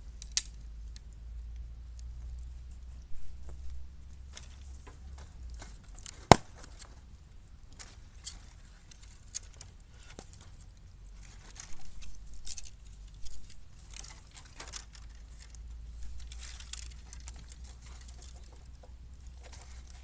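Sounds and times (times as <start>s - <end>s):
bamboo fire crackling and popping: 0.0s - 20.0s
low steady rumble: 0.0s - 20.0s.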